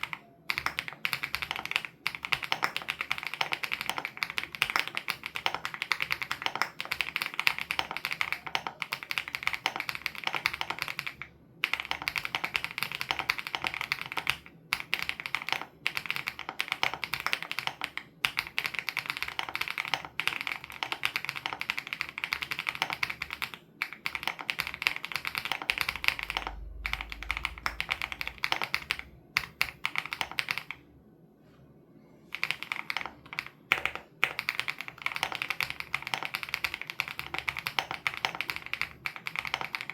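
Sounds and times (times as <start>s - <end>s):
mechanical keyboard typing: 0.0s - 30.8s, 32.3s - 39.9s.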